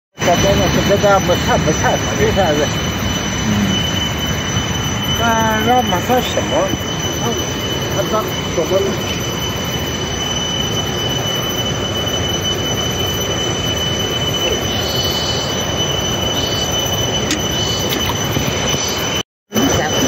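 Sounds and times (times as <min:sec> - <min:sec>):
high-pitched whine: 0:00.2 - 0:20.0.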